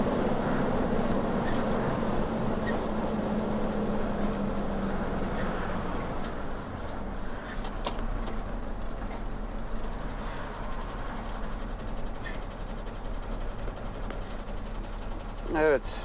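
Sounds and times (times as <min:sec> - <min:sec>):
cab rattles: 0:00.0 - 0:16.0
truck engine and road rumble: 0:00.0 - 0:16.0.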